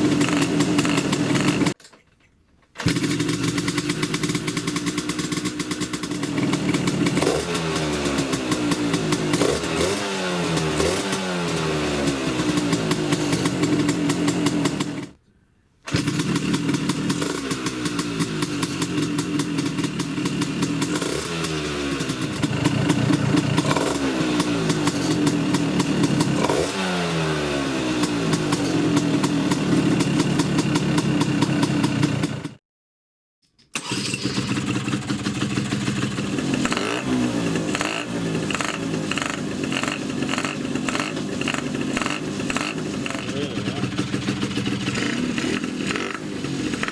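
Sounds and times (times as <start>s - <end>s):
scooter engine idling and revving: 0.0s - 1.8s, 2.8s - 15.2s, 15.9s - 32.6s, 33.8s - 46.9s.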